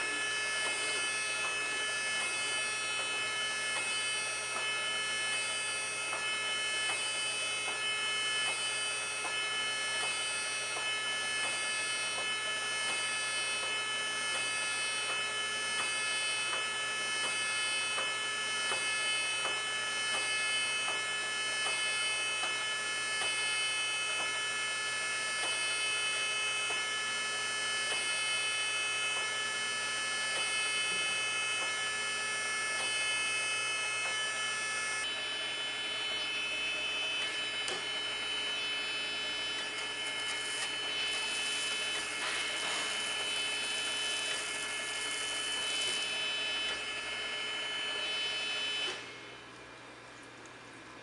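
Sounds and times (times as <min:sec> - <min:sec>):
surface grinder electric whine: 0:00.0 - 0:49.5.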